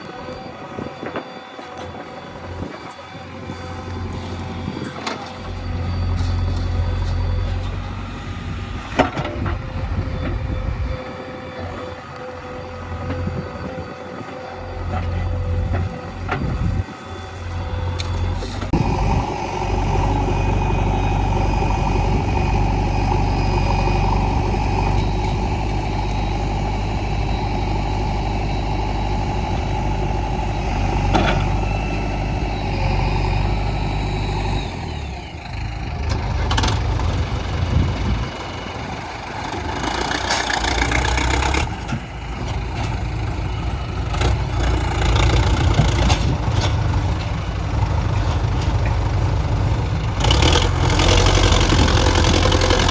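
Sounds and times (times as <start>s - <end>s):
diesel engines running: 0.0s - 52.9s.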